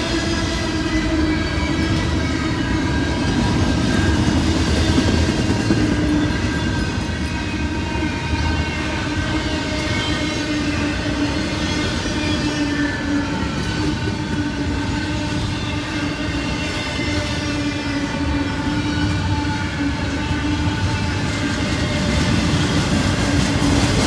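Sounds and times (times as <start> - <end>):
train wheels rumbling and clattering: 0.0 - 24.0.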